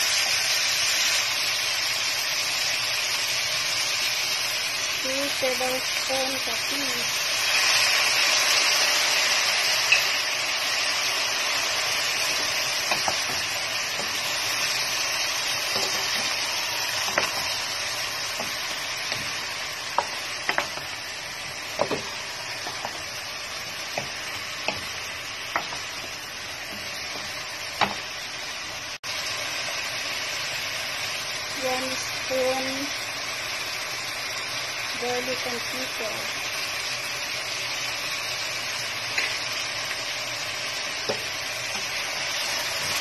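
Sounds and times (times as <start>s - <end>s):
chicken sizzling in hot oil: 0.0s - 43.0s.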